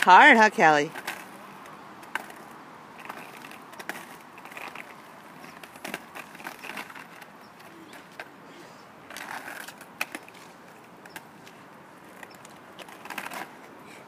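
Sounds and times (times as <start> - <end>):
skate wheels rolling on asphalt: 0.0 - 14.0
skates clacking on pavement: 0.0 - 14.0.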